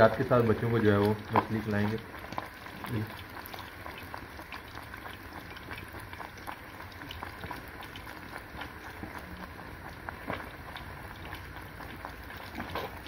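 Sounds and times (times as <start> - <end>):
frying oil sizzling and crackling: 0.0 - 13.0.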